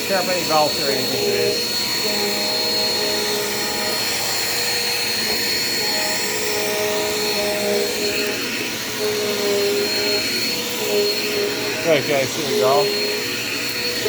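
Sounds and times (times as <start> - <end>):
upright vacuum whining: 0.0 - 14.0.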